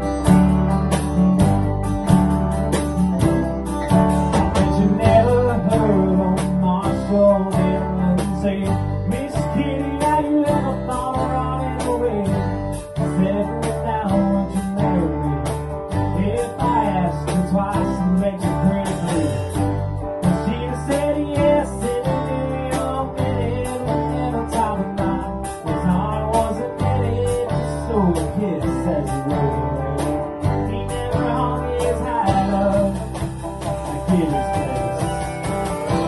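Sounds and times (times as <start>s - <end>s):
bass guitar: 0.0s - 36.0s
electric guitar: 0.0s - 36.0s
steady drum beat: 0.0s - 36.0s
man singing into a microphone: 4.6s - 19.6s, 20.2s - 33.3s, 33.9s - 35.2s.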